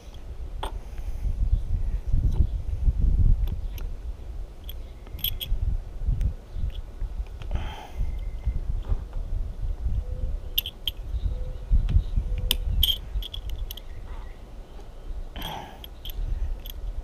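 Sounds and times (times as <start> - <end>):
low rumble of handling noise: 0.0 - 17.0.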